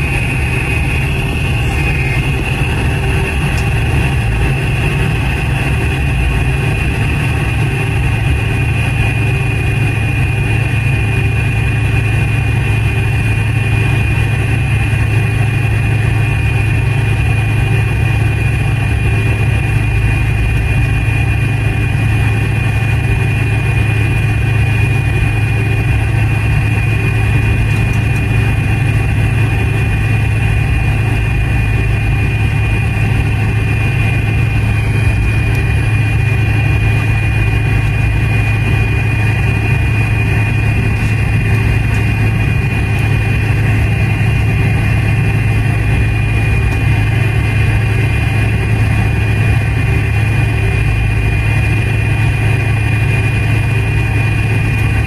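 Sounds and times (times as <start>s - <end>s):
high-pitched engine whine: 0.0s - 55.0s
jet engines droning in cabin: 0.0s - 55.0s.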